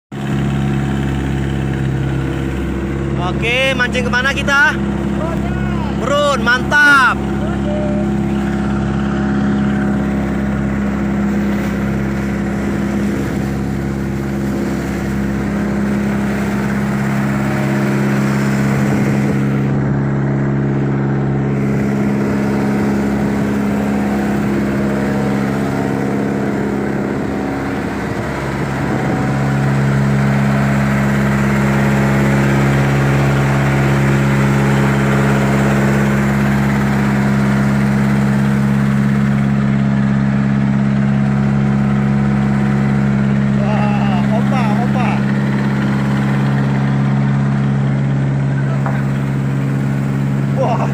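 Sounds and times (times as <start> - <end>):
vehicle engine running: 0.1 - 50.9.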